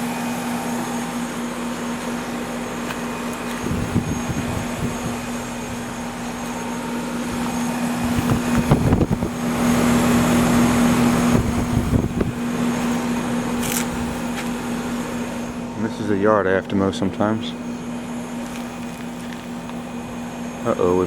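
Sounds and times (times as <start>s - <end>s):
compressor electrical hum: 0.0s - 21.0s
condenser fan blowing: 0.0s - 21.0s.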